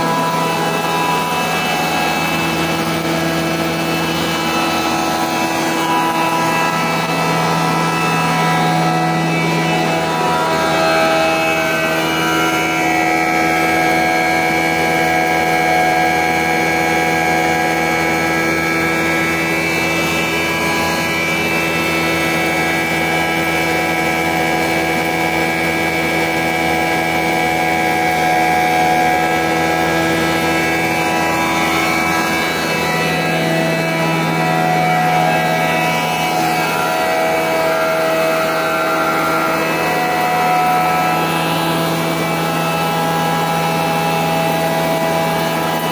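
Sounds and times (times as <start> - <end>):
electric mill droning and whining: 0.0 - 45.9.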